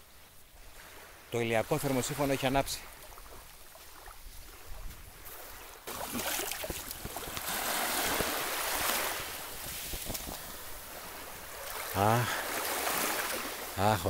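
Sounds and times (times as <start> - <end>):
water lapping over sand: 0.0 - 14.0.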